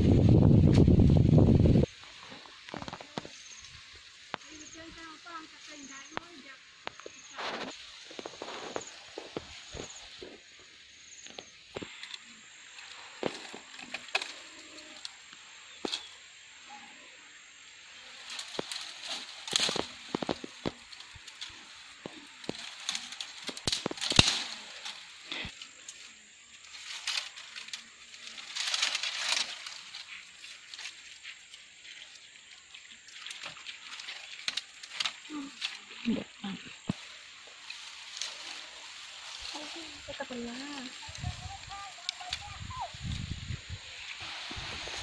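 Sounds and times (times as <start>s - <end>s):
rustling through dry brush: 0.0s - 16.9s, 17.6s - 45.0s
branches cracking: 5.9s - 16.2s, 18.0s - 32.1s, 33.1s - 45.0s.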